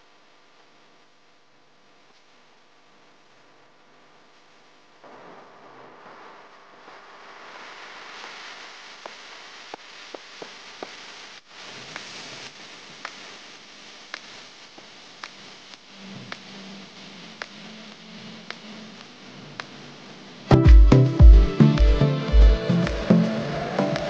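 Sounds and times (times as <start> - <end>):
static-like hiss: 0.0 - 24.0.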